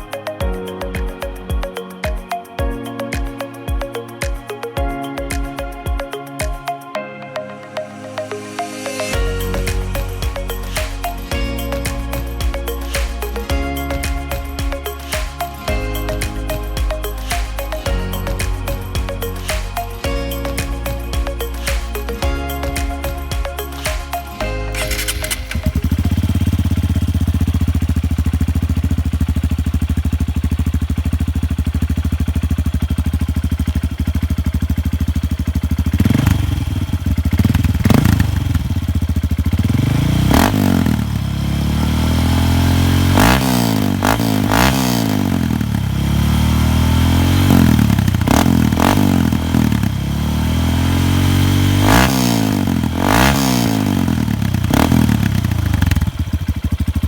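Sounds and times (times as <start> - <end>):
motorcycle engine idling and revving: 9.2 - 57.0.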